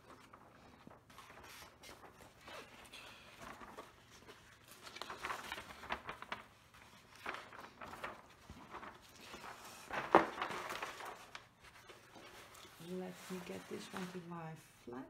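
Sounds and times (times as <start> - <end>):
plastic film crackling and rustling: 0.0 - 15.0.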